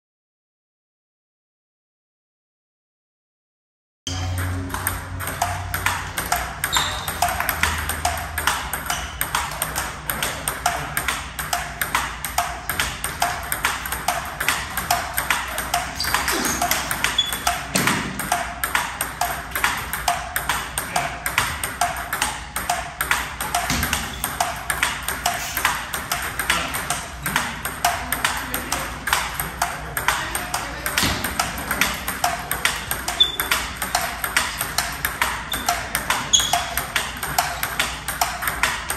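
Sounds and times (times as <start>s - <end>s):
table tennis balls clicking: 4.1s - 38.9s.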